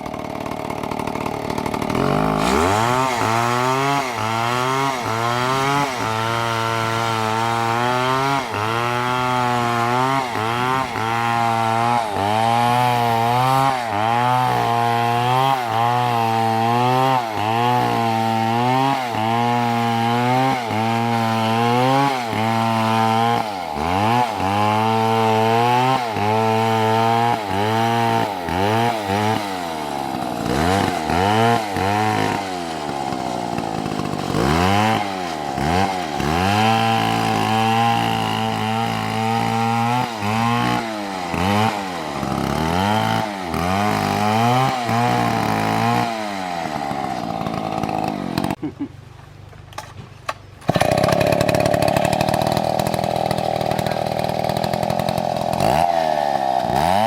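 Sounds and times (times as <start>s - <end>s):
chainsaw cutting into tree: 0.0s - 48.8s, 50.6s - 57.0s.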